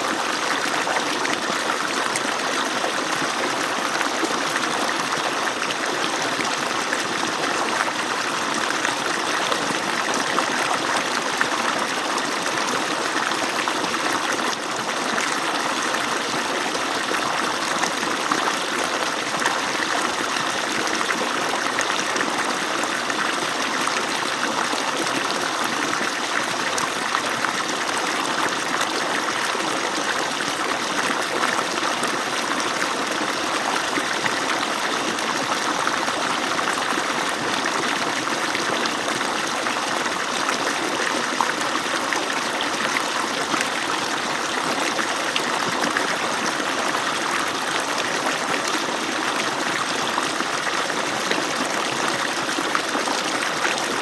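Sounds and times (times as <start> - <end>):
water pouring from pipe: 0.1 - 54.0.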